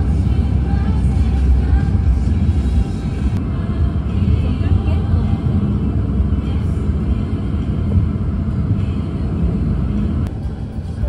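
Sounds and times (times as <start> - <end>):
car interior road and engine noise: 0.0 - 11.0.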